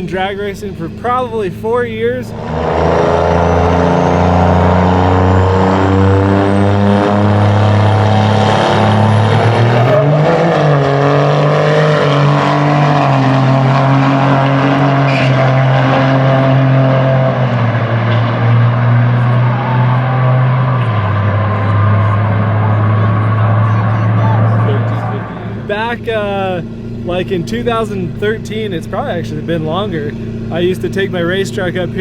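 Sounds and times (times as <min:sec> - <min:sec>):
vehicle engines droning: 0:00.0 - 0:32.0.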